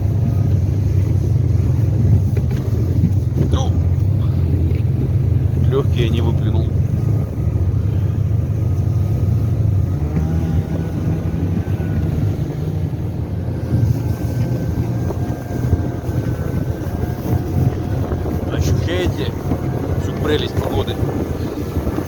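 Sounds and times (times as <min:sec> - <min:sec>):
snowmobile engine drone: 0:00.0 - 0:22.0
wind buffeting microphone: 0:00.0 - 0:22.0.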